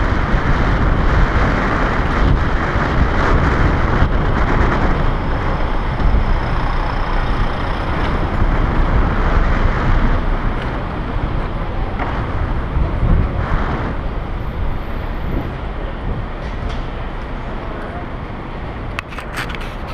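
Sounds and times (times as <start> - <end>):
city traffic noise: 0.0 - 19.9
wind rushing over microphone: 0.0 - 19.9.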